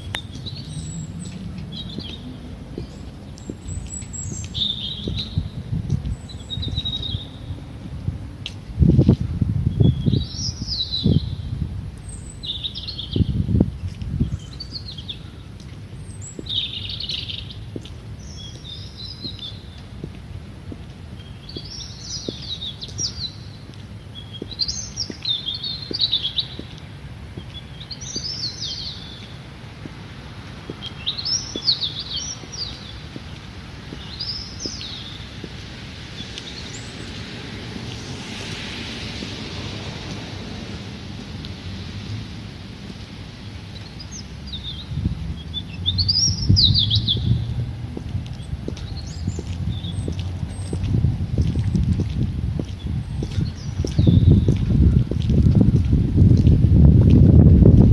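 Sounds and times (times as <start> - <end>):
songbird chirping: 0.0 - 7.8, 8.4 - 40.2, 42.9 - 55.4
low city rumble: 0.0 - 57.9.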